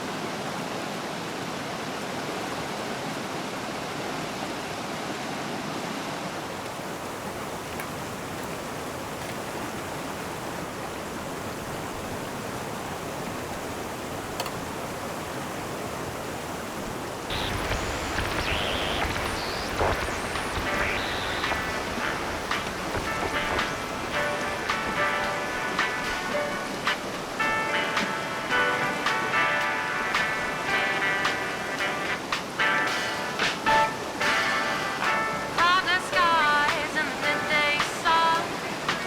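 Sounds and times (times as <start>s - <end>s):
mountain river rushing: 0.0s - 39.0s.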